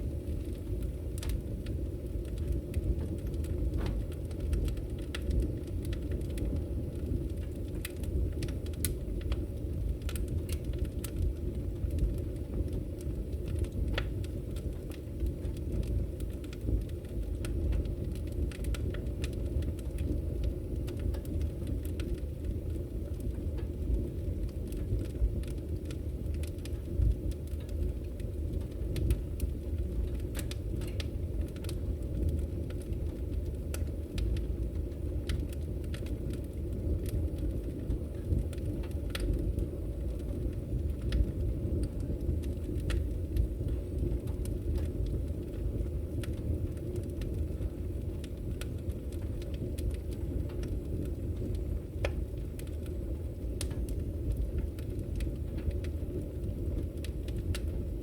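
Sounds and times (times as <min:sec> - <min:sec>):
firewood burning and crackling: 0:00.0 - 0:58.0.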